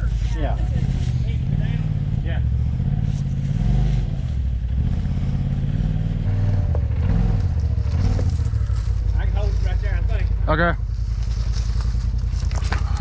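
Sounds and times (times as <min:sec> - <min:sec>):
utility vehicle engine idling: 0:00.0 - 0:13.0.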